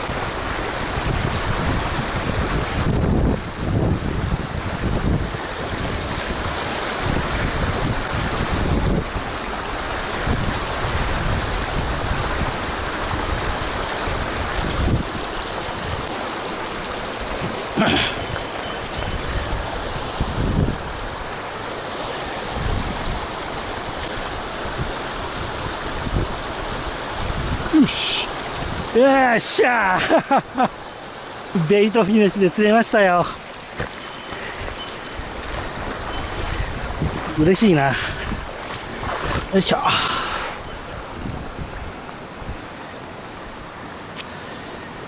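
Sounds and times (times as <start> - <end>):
wind buffeting microphone: 0.0 - 29.0, 33.4 - 43.8
stream running over rocks: 0.0 - 45.0.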